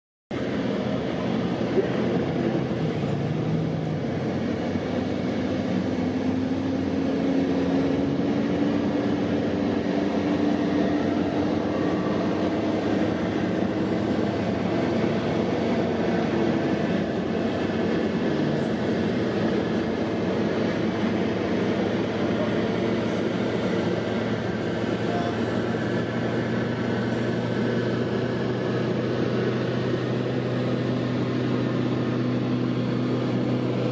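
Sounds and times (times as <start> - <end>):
engines droning: 0.3 - 33.9.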